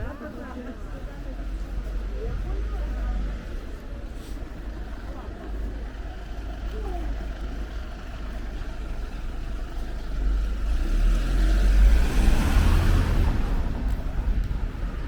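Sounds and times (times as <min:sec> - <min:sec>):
steady low rumble: 0:00.0 - 0:10.9, 0:11.6 - 0:15.0
motor vehicle passing: 0:01.2 - 0:15.0.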